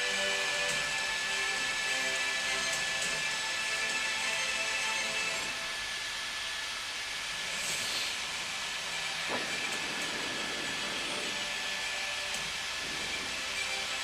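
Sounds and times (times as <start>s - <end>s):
helicopter turbine and rotor noise: 0.0s - 14.0s.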